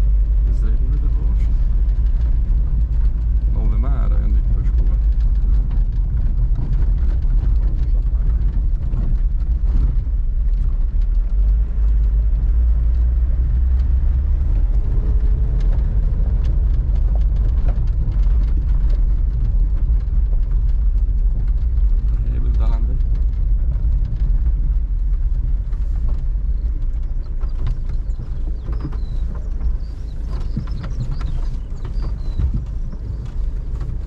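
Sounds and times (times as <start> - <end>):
car road and engine rumble: 0.0 - 34.0
faint ticks and rattles: 0.0 - 34.0.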